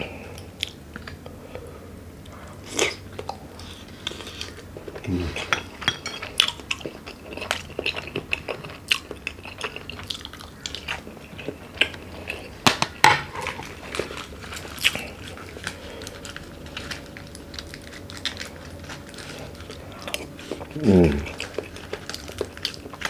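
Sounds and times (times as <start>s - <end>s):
person chewing wetly: 2.2s - 12.6s, 13.4s - 23.0s.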